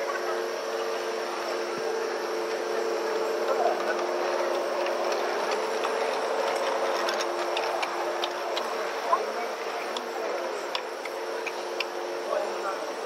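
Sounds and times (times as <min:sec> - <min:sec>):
model train electric motor hum: 0:00.0 - 0:13.0
wheels clicking over track: 0:00.0 - 0:13.0.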